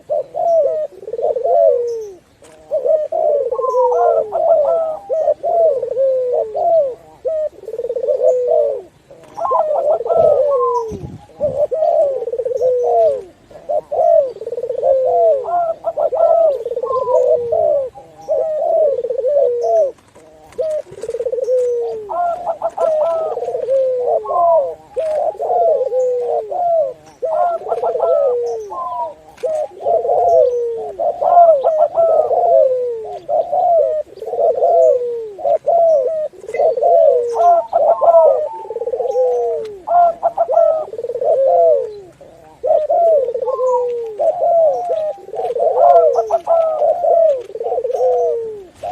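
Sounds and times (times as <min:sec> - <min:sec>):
doves cooing: 0:00.0 - 0:48.9.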